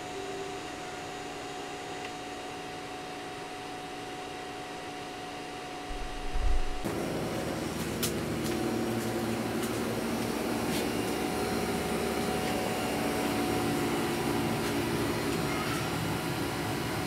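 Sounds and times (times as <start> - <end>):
cooling fans whirring: 0.0 - 17.0.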